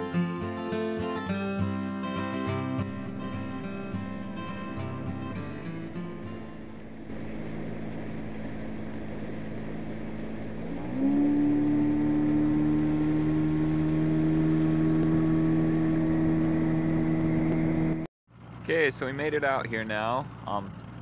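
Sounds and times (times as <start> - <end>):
outboard motor running: 2.8 - 21.0.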